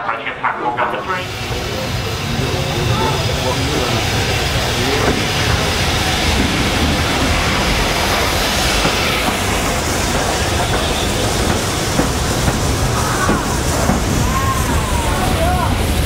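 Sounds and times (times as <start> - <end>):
steam train rolling past: 0.0 - 16.0.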